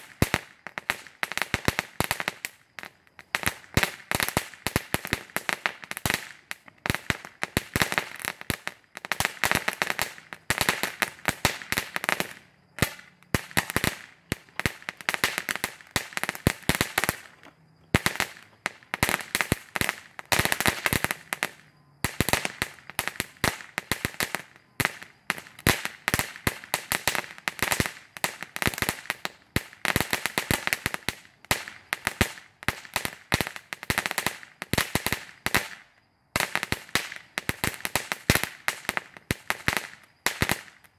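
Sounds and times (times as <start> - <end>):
ground firework crackling: 0.0 - 40.9.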